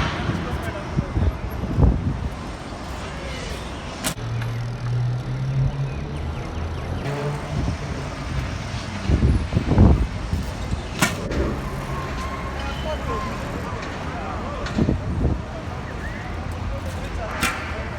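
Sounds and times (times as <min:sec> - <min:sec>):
vehicle engine humming: 0:00.0 - 0:05.9, 0:06.6 - 0:17.9.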